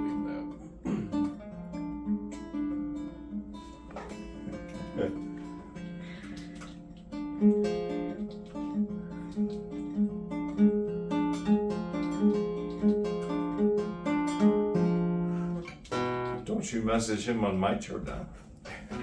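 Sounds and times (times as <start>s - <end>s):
fingerstyle acoustic guitar: 0.0s - 17.2s, 18.0s - 19.0s.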